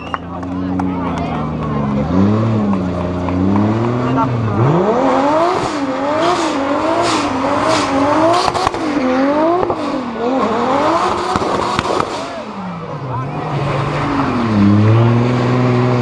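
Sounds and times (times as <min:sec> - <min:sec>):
exhaust cracks: 0:00.1 - 0:16.0
car engine revving high: 0:00.4 - 0:16.0.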